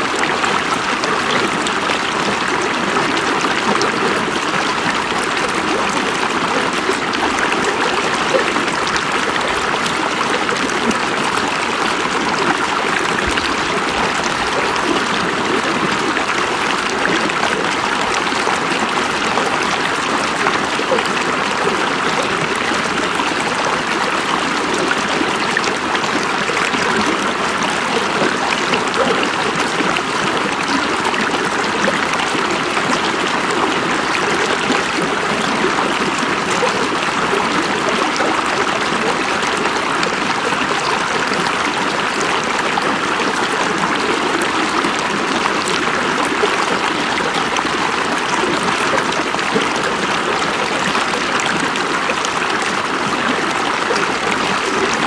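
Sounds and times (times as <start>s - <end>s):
river babbling over rocks: 0.0s - 55.0s.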